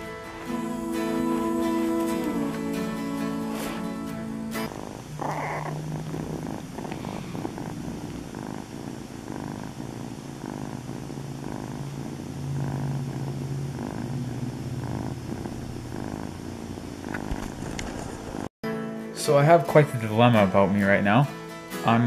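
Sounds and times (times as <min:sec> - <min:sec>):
kitten purring: 0:00.0 - 0:18.5.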